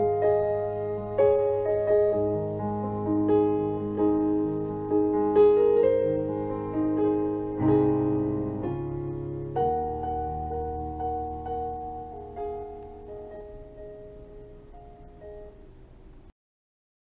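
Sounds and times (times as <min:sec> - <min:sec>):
slow gentle piano music: 0:00.0 - 0:16.3.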